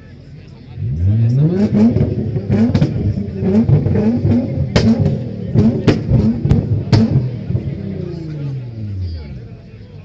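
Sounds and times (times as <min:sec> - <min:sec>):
car engine revving: 0:00.7 - 0:10.0
exhaust cracks: 0:00.8 - 0:09.5.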